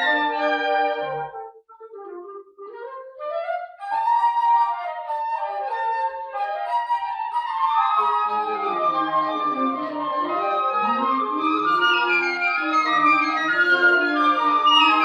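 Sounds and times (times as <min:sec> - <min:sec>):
flutes playing classical music: 0:00.0 - 0:15.0.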